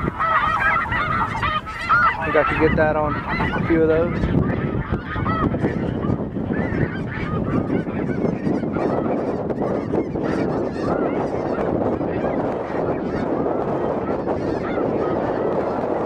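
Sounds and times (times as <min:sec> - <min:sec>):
geese honking: 0:00.0 - 0:16.0
low wind rumble on microphone: 0:00.0 - 0:16.0.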